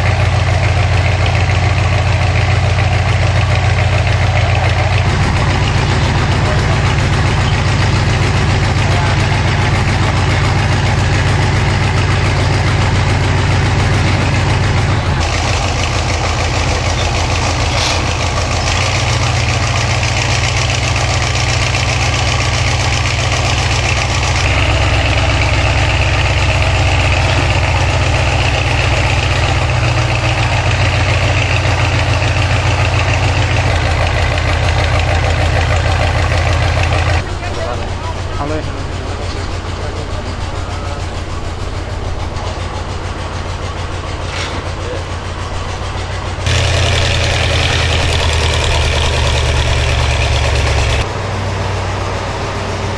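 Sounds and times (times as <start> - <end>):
boat engine humming: 0.0 - 52.9.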